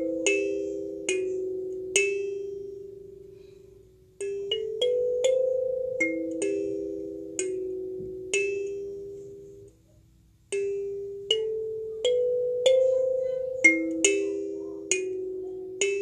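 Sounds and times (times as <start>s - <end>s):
kalimba melody: 0.0s - 3.4s, 4.2s - 9.6s, 10.6s - 16.0s.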